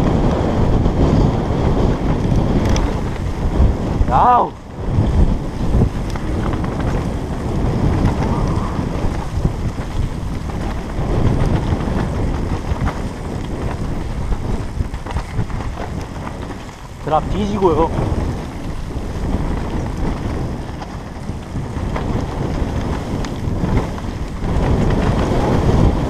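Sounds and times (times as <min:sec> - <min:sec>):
bike rattles and knocks: 0:00.0 - 0:26.0
steady rumble: 0:00.0 - 0:26.0
wind buffeting microphone: 0:00.0 - 0:26.0.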